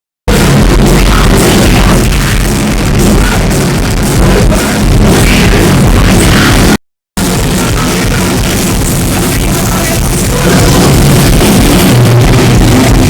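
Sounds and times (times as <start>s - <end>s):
punk band playing live: 0.3s - 13.0s.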